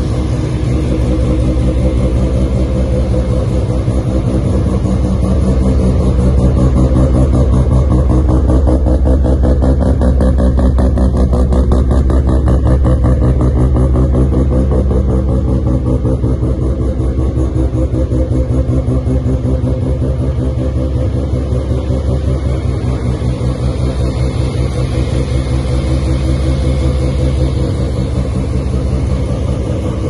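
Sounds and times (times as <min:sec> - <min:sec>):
rotary engine idling: 0:00.0 - 0:30.0.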